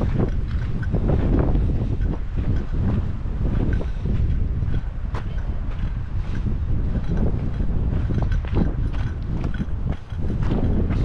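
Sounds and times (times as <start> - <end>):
footsteps scuffing on trail: 0.0 - 11.0
wind buffeting microphone: 0.0 - 11.0.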